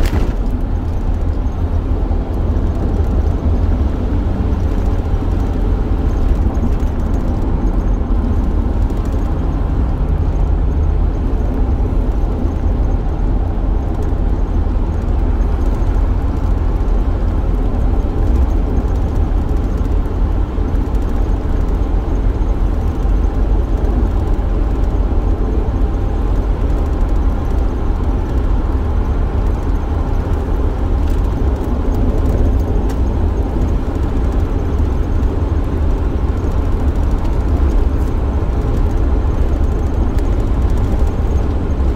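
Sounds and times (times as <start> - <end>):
van engine and road noise: 0.0 - 41.9.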